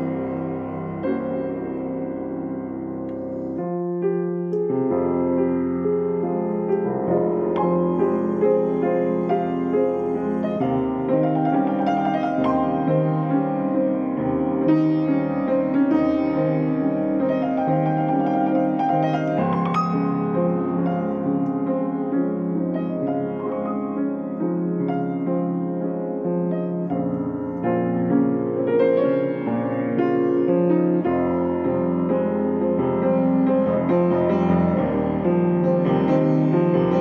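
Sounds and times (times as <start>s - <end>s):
solo piano playing chords: 0.0s - 37.0s.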